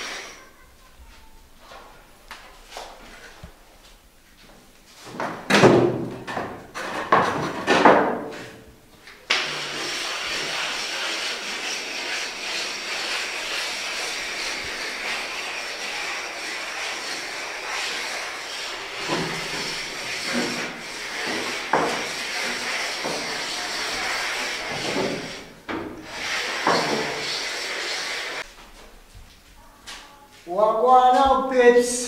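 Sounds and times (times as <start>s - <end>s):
steady hiss: 0.0s - 4.9s, 9.0s - 30.5s.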